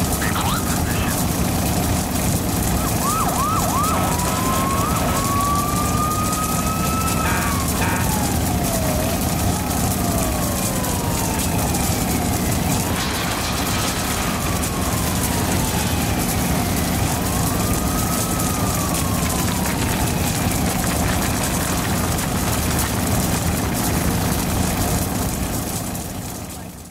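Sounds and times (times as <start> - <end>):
low engine hum: 0.0 - 26.7
constant rushing noise: 0.0 - 26.9
emergency vehicle siren wailing: 0.0 - 26.9.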